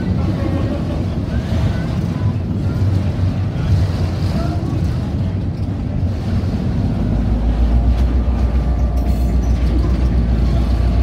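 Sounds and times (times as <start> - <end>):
diesel locomotive engine pulsing: 0.0 - 11.0
train rolling rumble: 0.0 - 11.0.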